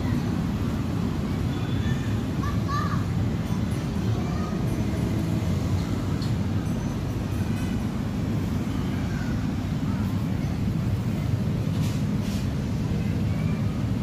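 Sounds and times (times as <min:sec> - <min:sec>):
low rumble of urban background noise: 0:00.0 - 0:14.0.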